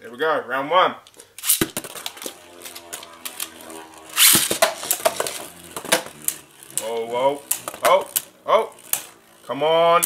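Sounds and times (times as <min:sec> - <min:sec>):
spinning tops whirring and clattering: 0:01.4 - 0:10.0.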